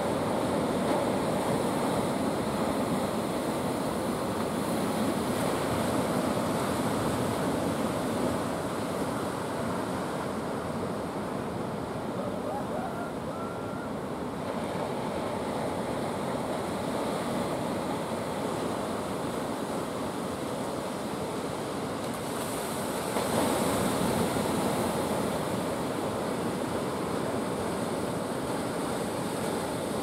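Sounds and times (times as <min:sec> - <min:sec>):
ocean surf washing: 0:00.0 - 0:30.0.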